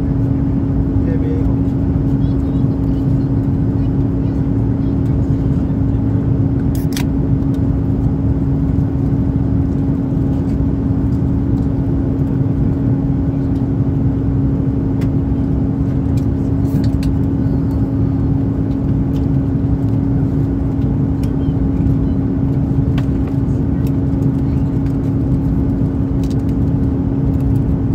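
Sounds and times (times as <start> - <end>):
aircraft cabin engine rush: 0.0 - 27.9
constant hum: 0.0 - 27.9.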